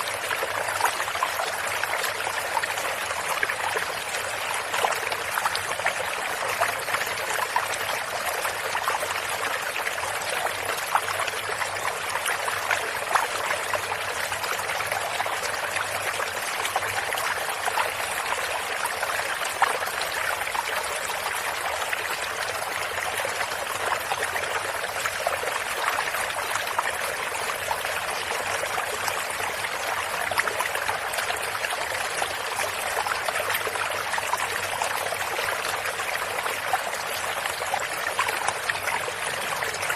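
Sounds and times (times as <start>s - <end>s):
stream water flowing and splashing: 0.0s - 39.9s.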